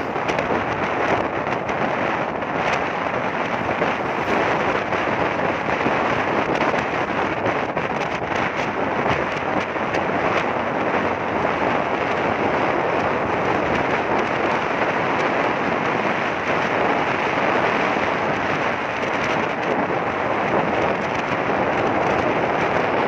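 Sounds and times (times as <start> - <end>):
motorcycle road noise: 0.0 - 23.0
wind buffeting microphone: 0.0 - 23.0.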